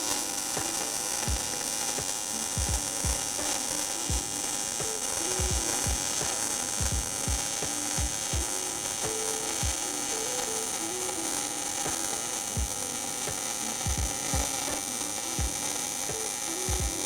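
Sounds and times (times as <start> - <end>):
welding arc hissing and crackling: 0.0 - 17.0.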